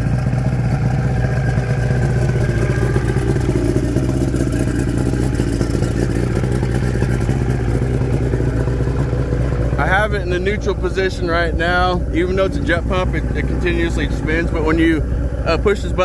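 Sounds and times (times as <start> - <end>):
outboard motors idling: 0.0 - 16.0.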